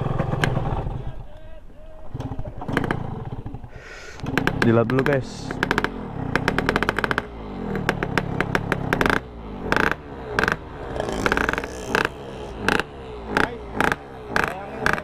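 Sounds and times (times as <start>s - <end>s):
small motorcycle engine revving: 0.0s - 15.0s
sharp knocks and rattles: 1.9s - 15.0s.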